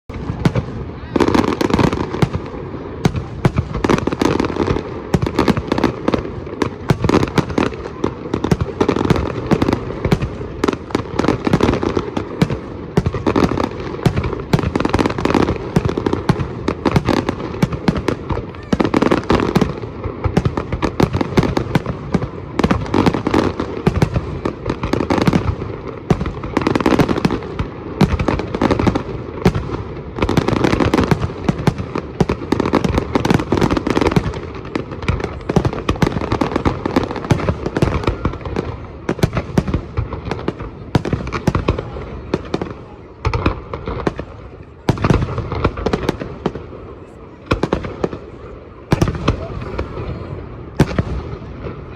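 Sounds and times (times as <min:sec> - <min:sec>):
fireworks bangs and crackling pops: 0:00.0 - 0:51.9.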